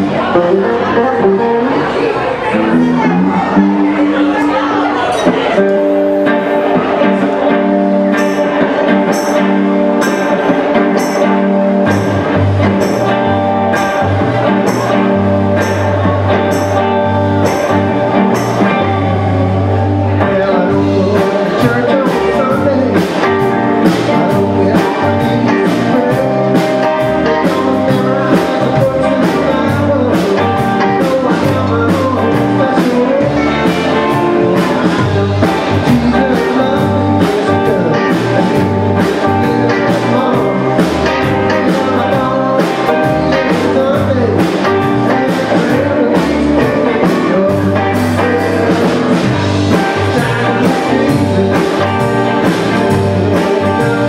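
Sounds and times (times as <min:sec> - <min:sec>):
electric guitars: 0:00.0 - 0:54.0
low bass notes: 0:00.0 - 0:54.0
drum kit: 0:05.2 - 0:54.0.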